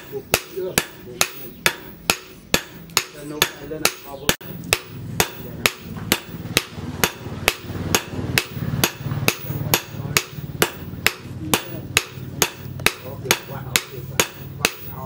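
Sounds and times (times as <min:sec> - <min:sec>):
hammer beating metal on anvil: 0:00.0 - 0:15.0.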